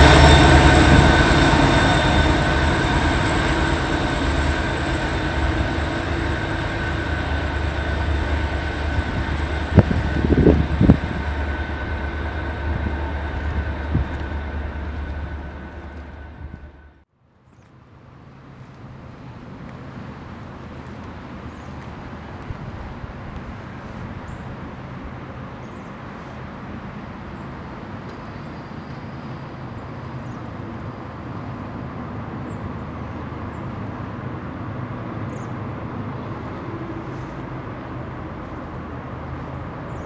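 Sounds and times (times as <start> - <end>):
faint wind noise: 0.0 - 16.9, 18.2 - 40.0
train rolling past: 0.0 - 17.1, 18.2 - 40.0.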